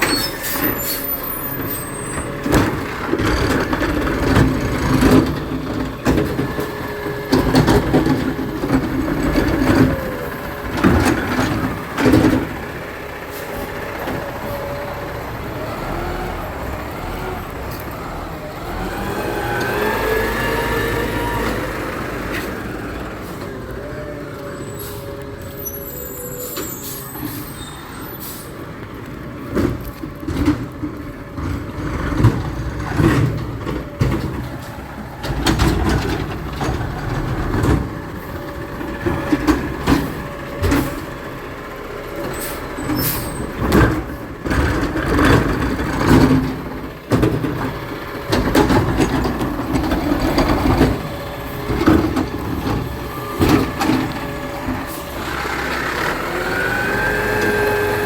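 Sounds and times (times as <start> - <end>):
garbage truck engine running: 0.0 - 58.0.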